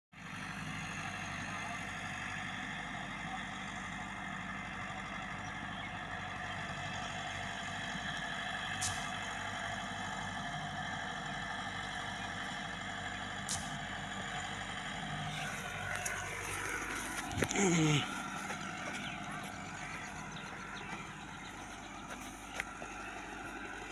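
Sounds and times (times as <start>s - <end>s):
tractor diesel engine running: 0.2s - 23.9s.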